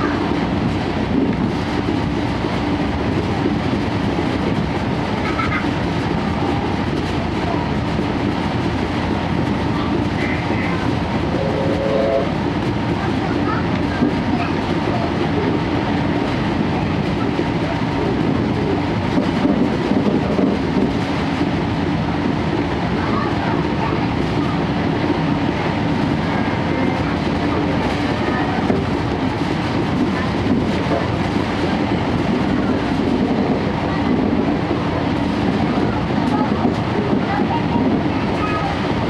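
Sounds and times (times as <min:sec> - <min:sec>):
train wheels rumbling on track: 0:00.0 - 0:39.0.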